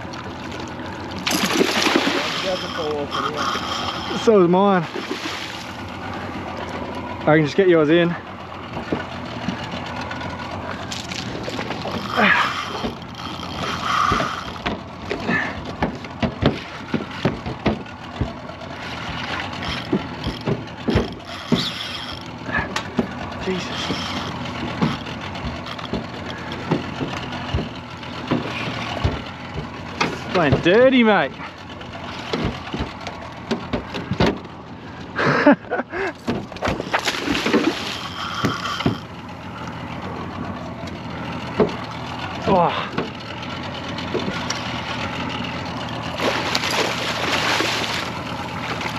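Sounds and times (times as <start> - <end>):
water rushing: 0.0 - 15.6, 16.4 - 31.3, 36.6 - 42.8, 43.7 - 48.9
knocks and slaps on boat: 8.5 - 48.9.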